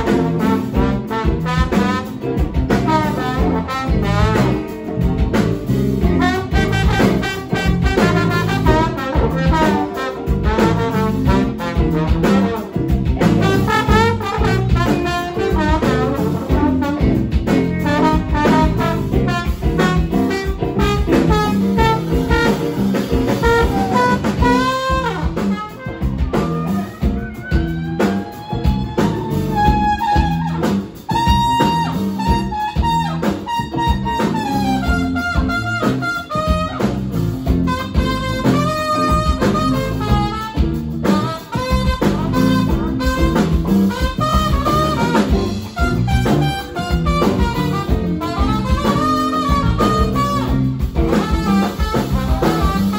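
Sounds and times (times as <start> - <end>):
horn section melody: 0.0 - 52.9
live blues band playing: 0.0 - 52.9.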